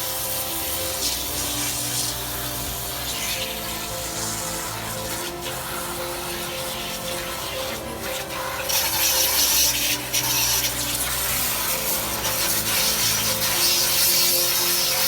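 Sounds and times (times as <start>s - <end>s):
pressure washer spraying: 0.0s - 15.0s.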